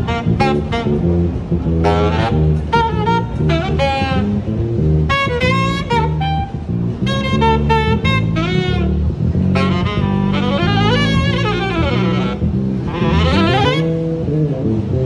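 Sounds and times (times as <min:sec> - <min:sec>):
electric bass groove: 0:00.0 - 0:15.0
saxophone phrases: 0:00.0 - 0:15.0.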